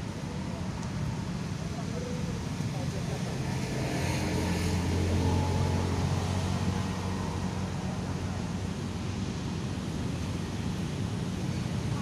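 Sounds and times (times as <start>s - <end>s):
vehicle engine humming: 0.0s - 10.8s
outdoor traffic noise: 0.0s - 12.0s.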